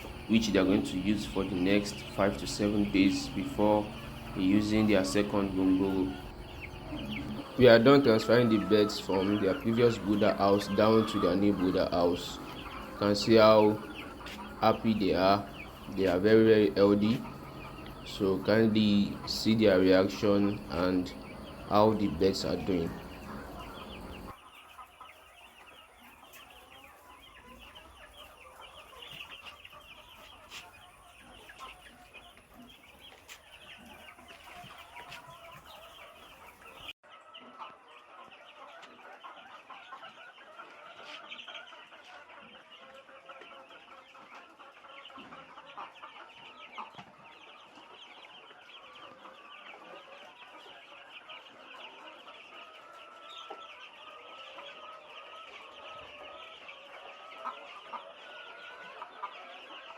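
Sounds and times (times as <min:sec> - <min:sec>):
chicks peeping and cheeping: 0:00.0 - 0:59.9.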